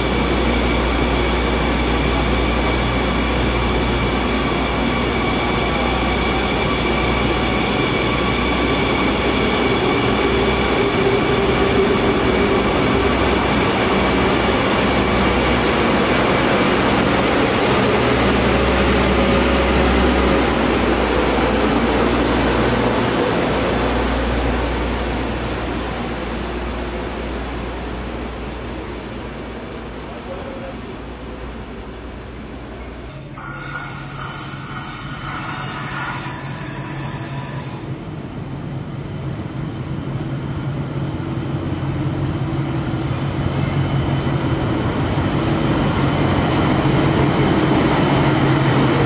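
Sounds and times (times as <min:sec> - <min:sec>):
train rumble with high whine: 0:00.0 - 0:49.0.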